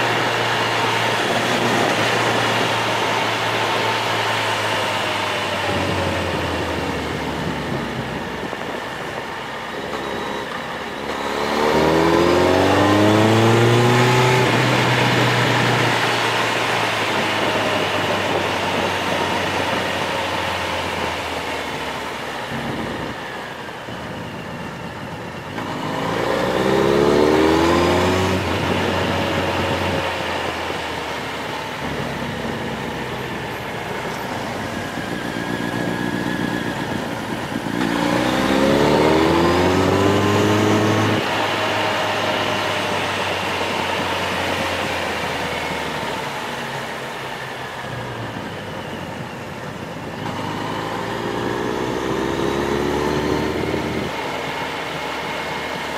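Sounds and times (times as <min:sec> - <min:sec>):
wind noise: 0:00.0 - 0:10.6, 0:11.4 - 0:21.7, 0:22.3 - 0:46.9, 0:47.9 - 0:54.2
road noise: 0:00.0 - 0:55.9
vehicle engine accelerating: 0:00.0 - 0:55.9.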